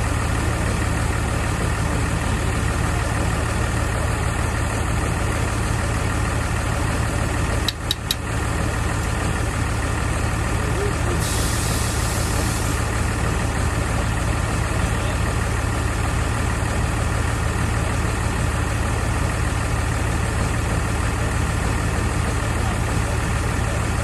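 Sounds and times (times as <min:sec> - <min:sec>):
diesel loader engine idling: 0:00.0 - 0:24.0.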